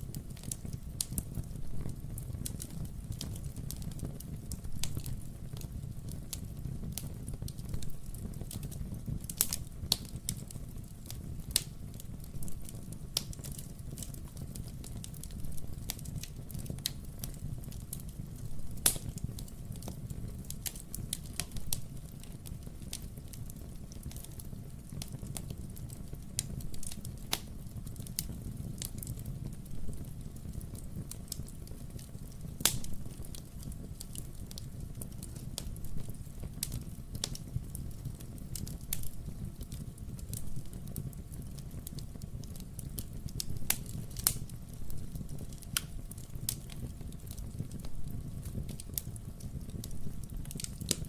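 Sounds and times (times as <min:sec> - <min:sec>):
logs crackling and popping: 0:00.0 - 0:51.0
wood fire burning: 0:00.0 - 0:51.0.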